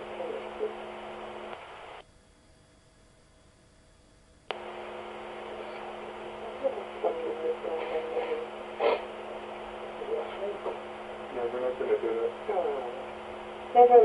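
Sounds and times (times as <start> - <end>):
electrical hum and hiss: 0.0 - 14.0
faint indistinct room sounds: 0.0 - 14.0.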